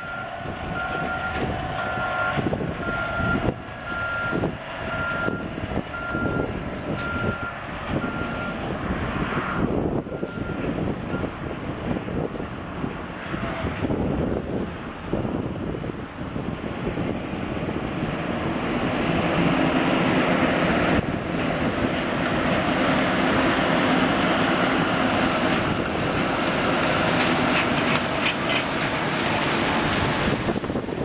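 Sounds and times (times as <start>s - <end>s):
wind noise on microphone: 0.0s - 23.8s, 24.7s - 31.0s
truck engine running: 0.0s - 31.0s.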